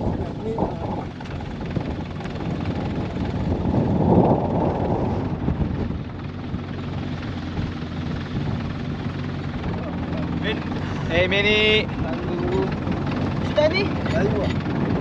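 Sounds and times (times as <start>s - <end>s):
engine idling: 0.0s - 15.0s
wind buffeting microphone: 0.0s - 15.0s.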